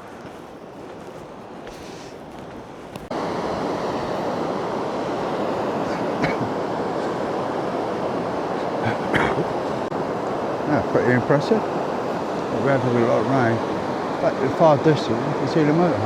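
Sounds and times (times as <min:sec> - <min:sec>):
falling water rushing: 0:00.0 - 0:16.0.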